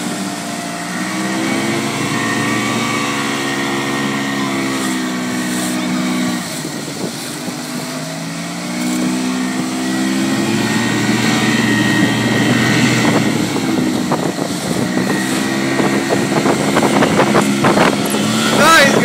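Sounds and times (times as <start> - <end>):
motorboat engine running: 0.0 - 19.0
water splashing and rushing: 0.0 - 19.0.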